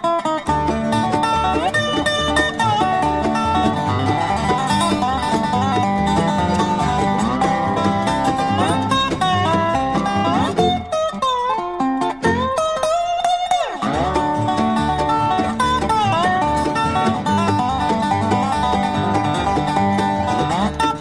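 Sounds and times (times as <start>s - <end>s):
bluegrass instrumental: 0.0s - 21.0s
dobro sliding notes: 0.0s - 21.0s.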